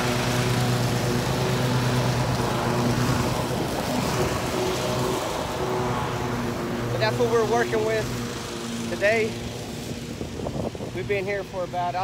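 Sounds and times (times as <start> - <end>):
riding mower engine running: 0.0 - 12.0.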